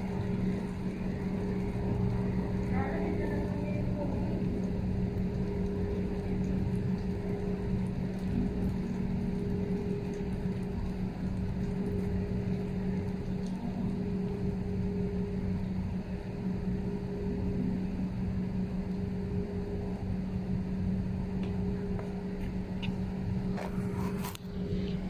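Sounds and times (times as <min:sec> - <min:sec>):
low rumble: 0:00.0 - 0:25.0
motor humming: 0:00.0 - 0:25.0.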